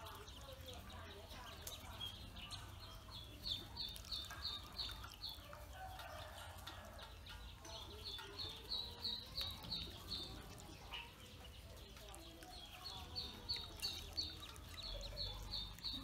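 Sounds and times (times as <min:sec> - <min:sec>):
ducklings peeping: 0:00.0 - 0:16.0
light water splashing: 0:00.0 - 0:16.0.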